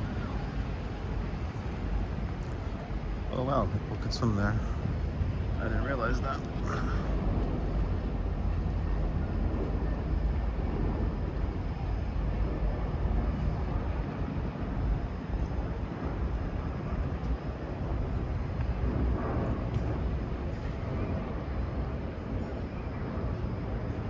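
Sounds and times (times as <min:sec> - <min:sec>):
city ambience low rumble: 0:00.0 - 0:24.0.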